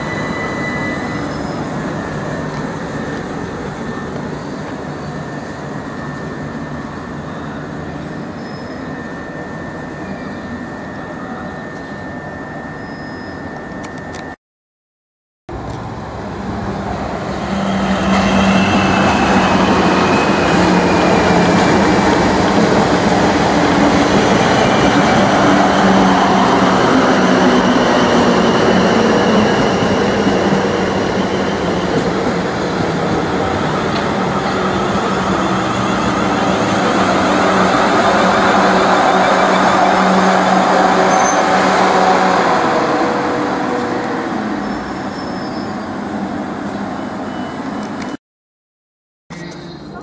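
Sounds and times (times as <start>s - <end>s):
train running close by: 0.0s - 14.4s, 15.5s - 48.2s.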